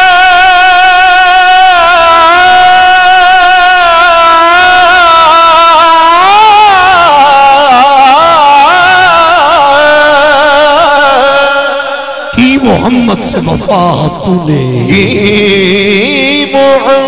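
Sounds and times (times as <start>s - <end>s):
man singing solo: 0.0s - 17.0s.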